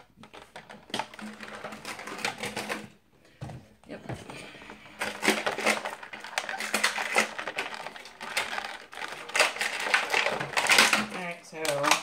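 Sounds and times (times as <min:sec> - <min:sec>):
plastic blister packaging crackling: 0:00.0 - 0:03.0, 0:04.8 - 0:12.0.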